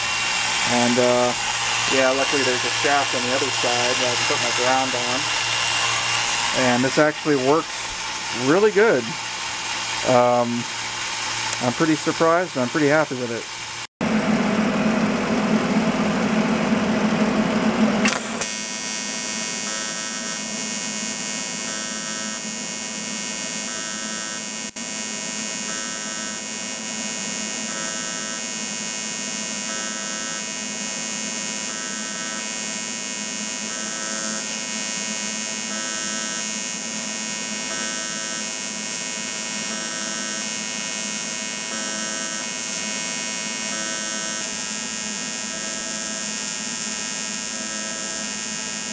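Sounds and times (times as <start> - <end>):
welding arc buzzing: 0.0 - 13.9, 17.9 - 48.9
whirring noise: 0.0 - 48.9.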